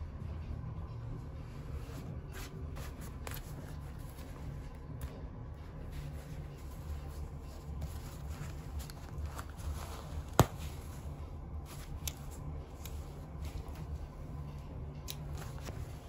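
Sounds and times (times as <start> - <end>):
fabric rustling: 1.4 - 14.3, 15.2 - 16.0.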